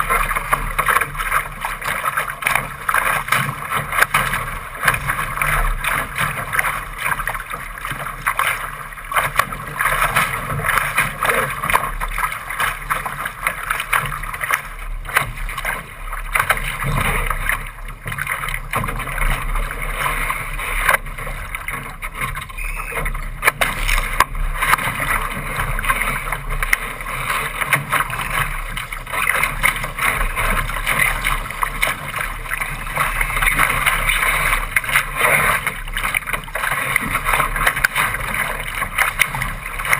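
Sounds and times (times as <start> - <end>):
water rushing along a boat hull: 0.0 - 39.9
waves slapping against the bow: 0.0 - 39.9.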